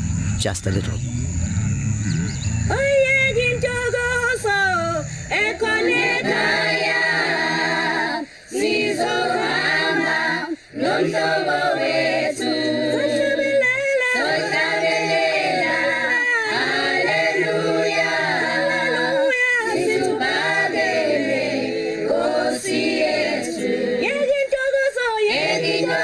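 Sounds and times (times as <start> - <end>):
choir singing: 2.4 - 24.6, 25.2 - 26.0.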